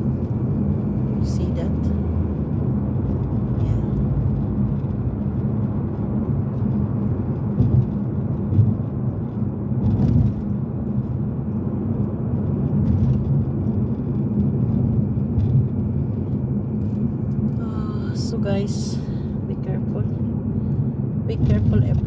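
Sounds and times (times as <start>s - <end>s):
car engine rumble from inside: 0.0s - 22.0s
road noise: 0.0s - 22.0s.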